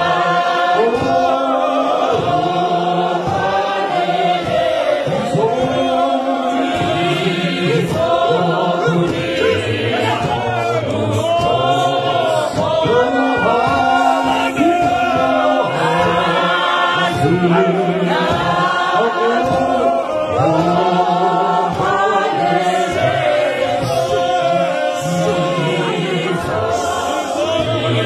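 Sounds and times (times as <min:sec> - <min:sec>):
men's choir singing: 0:00.0 - 0:28.0.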